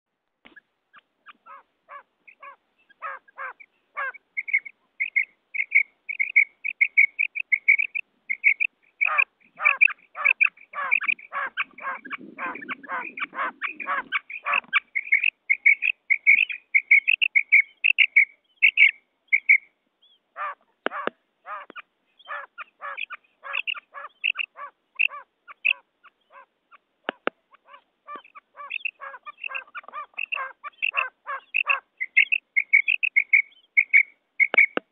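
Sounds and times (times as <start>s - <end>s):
quail calling: 0.5s - 34.9s.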